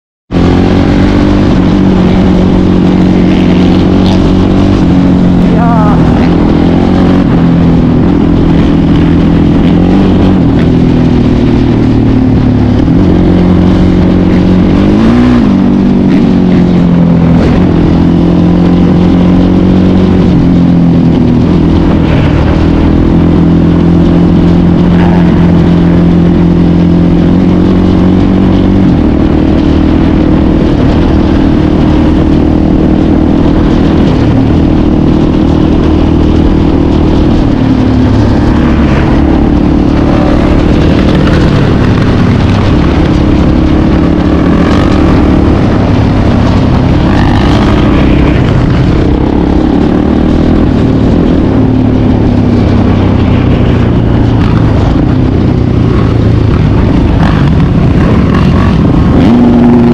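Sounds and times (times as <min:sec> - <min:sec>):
quad bike engine revving: 0:00.3 - 0:59.9.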